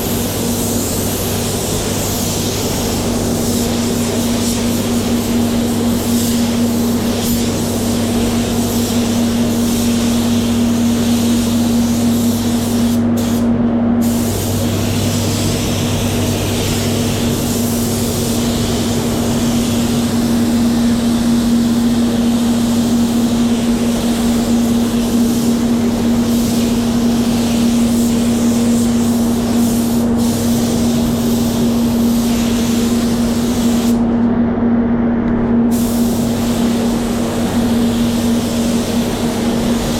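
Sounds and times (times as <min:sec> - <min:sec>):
spray gun hissing: 0:00.0 - 0:34.1, 0:35.7 - 0:39.9
steady low hum: 0:00.0 - 0:39.9.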